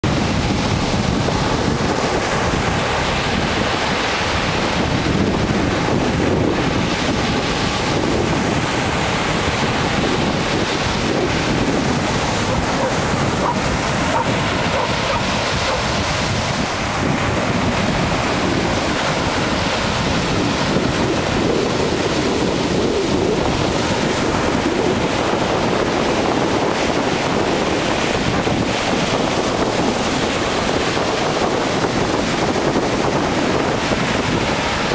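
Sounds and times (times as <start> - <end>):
sea surf breaking on beach: 0.0 - 34.9
wind buffeting microphone: 0.0 - 34.9.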